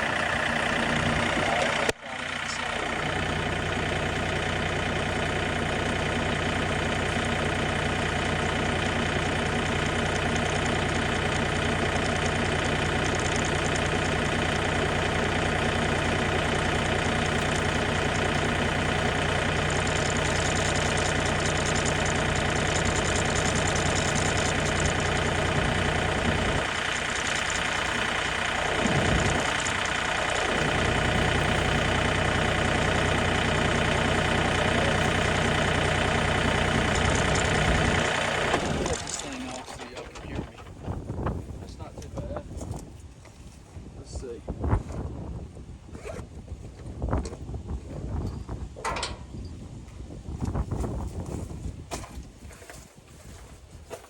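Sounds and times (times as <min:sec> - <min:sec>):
tractor engine idling: 0:00.0 - 0:44.4.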